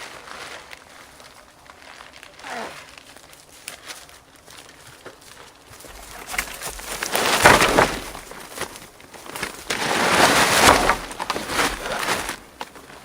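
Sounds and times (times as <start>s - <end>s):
dry brush and wood crunching: 0.0s - 13.0s.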